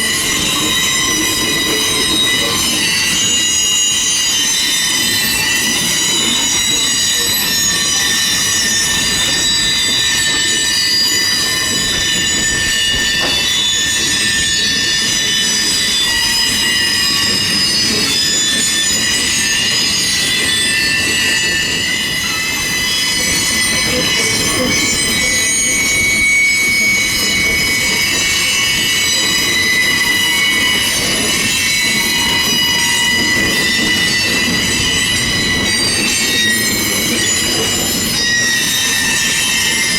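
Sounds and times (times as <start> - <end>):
train wheels squealing: 0.0 - 39.9.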